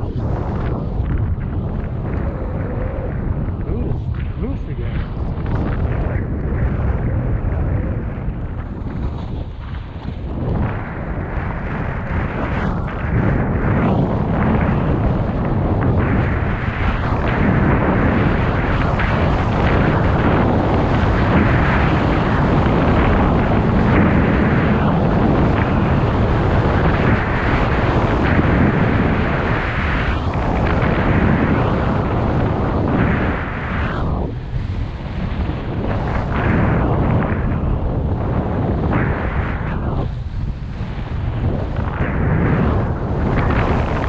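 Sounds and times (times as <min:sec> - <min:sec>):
wind rumbling on microphone: 0:00.0 - 0:44.0.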